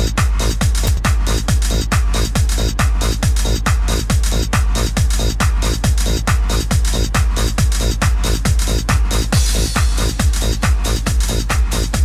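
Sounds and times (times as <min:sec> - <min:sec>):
electronic dance music: 0:00.0 - 0:12.0
kick drum: 0:00.0 - 0:12.0.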